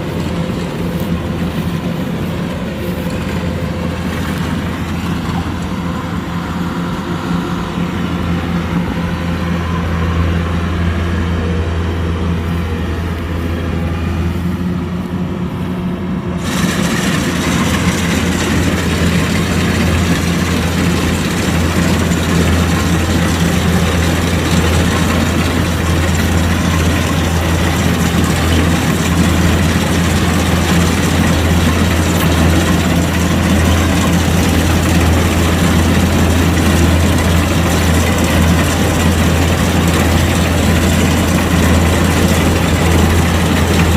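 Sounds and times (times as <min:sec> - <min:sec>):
combine harvester engine hum: 0:00.0 - 0:43.9
rushing mechanical noise: 0:00.0 - 0:43.9.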